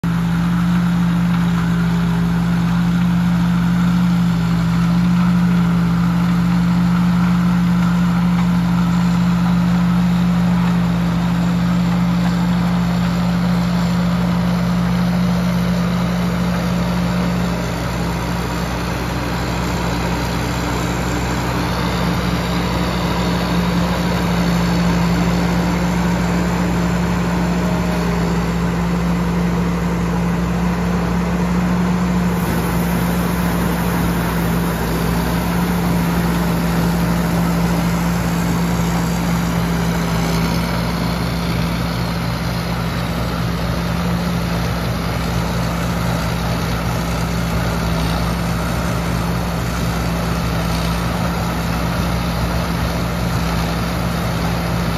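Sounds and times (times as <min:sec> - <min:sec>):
combine harvester engine humming: 0:00.0 - 0:54.9.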